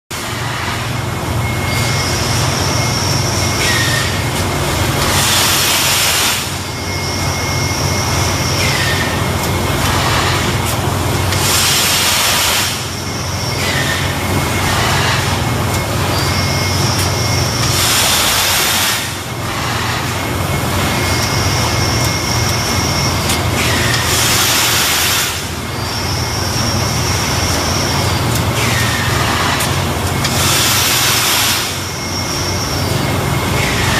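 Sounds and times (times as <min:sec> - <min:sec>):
machine high whine: 0:00.1 - 0:33.9.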